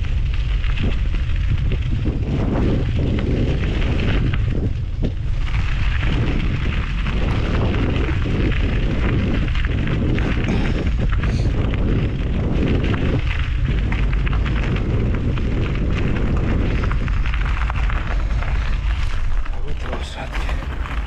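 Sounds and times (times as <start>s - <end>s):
bike tyres crunching on gravel: 0.0s - 21.0s
loud low rumble: 1.7s - 21.0s.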